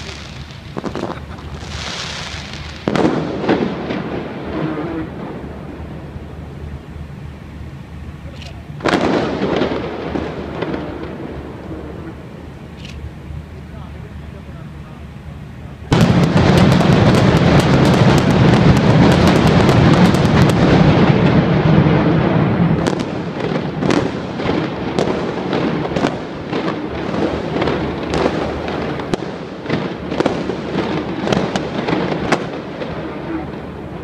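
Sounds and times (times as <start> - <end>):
fireworks crackling and banging: 0.0 - 34.0.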